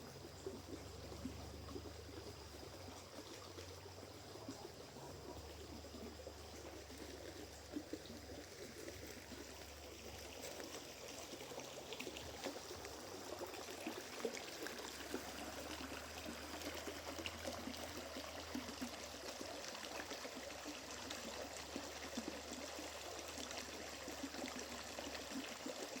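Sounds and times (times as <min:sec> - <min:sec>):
stream trickling over stones: 0:00.0 - 0:26.0.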